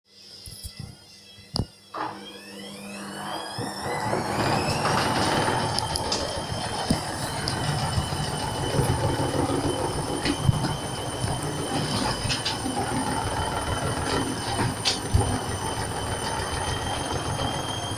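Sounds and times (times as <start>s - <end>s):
washing machine motor whine: 0.1s - 17.9s.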